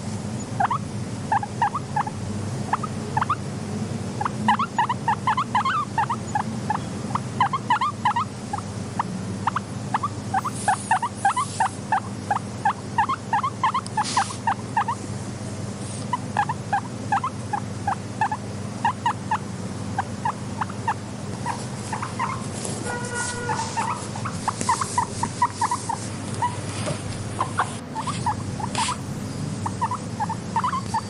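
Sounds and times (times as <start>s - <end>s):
low background hum: 0.0s - 31.0s
guinea pig squeaking: 0.4s - 3.5s, 4.2s - 15.0s, 16.0s - 31.0s.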